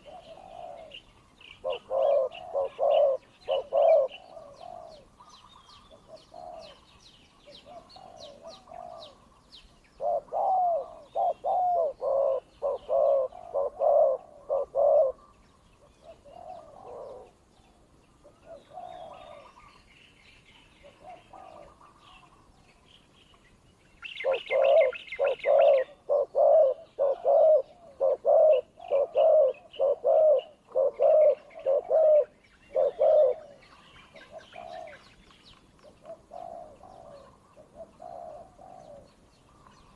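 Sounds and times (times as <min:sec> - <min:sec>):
doves cooing rapidly: 0:00.0 - 0:09.3, 0:10.0 - 0:15.4, 0:16.0 - 0:17.4, 0:18.2 - 0:19.6, 0:20.9 - 0:22.1, 0:24.2 - 0:35.2, 0:35.8 - 0:39.6
small birds chirping faintly: 0:00.0 - 0:39.9.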